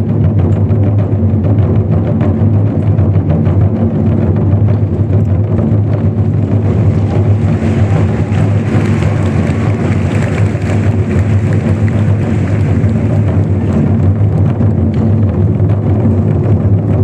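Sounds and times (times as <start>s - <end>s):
large drums rolling: 0.0s - 17.0s.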